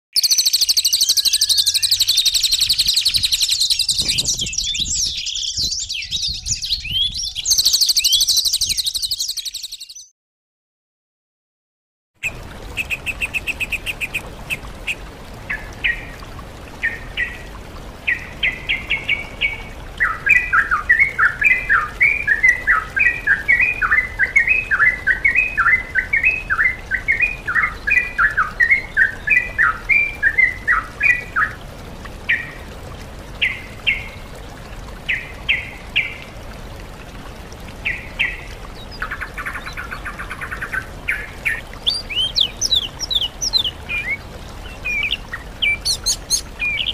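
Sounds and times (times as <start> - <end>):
songbird song: 0.2 - 10.1, 12.2 - 31.6, 32.3 - 36.3, 37.7 - 46.9.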